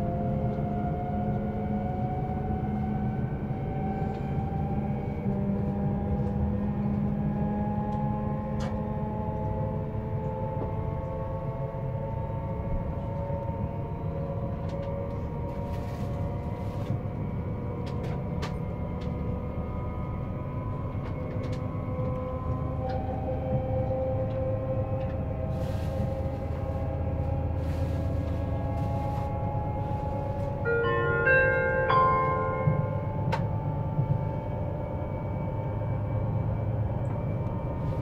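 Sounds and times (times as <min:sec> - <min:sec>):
low rumble of running train: 0:00.0 - 0:38.0
train inverter whine rising: 0:00.0 - 0:38.0.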